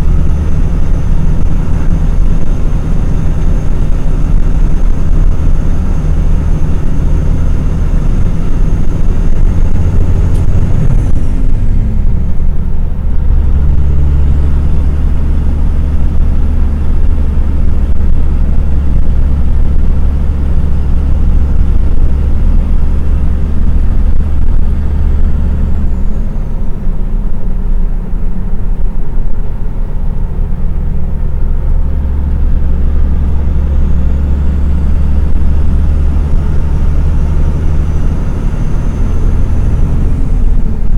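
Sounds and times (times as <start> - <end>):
truck diesel engine rumbling: 0.0 - 40.9.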